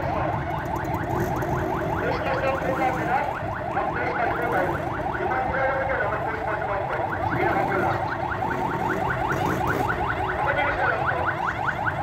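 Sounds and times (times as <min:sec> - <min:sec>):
street crowd background: 0:00.0 - 0:12.0.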